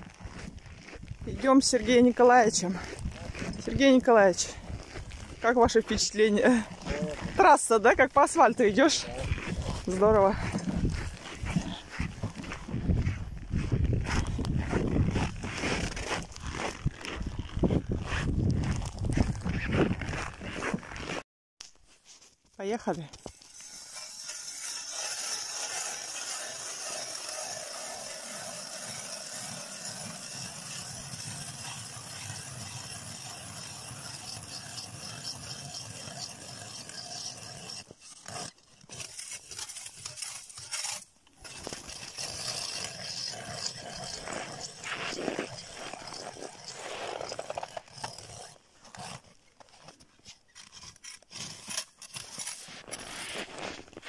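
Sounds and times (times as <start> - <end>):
ice auger scraping ice: 0.0 - 21.2, 22.8 - 54.0.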